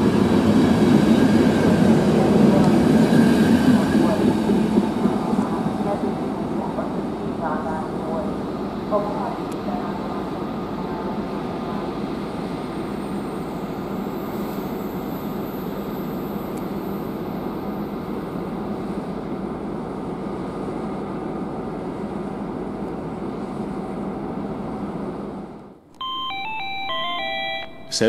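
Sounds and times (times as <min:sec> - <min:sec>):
electric train rushing noise: 0:00.0 - 0:25.6.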